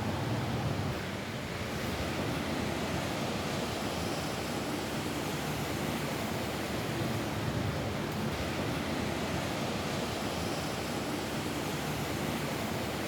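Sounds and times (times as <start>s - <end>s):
rain falling on a roof: 0.0s - 13.0s.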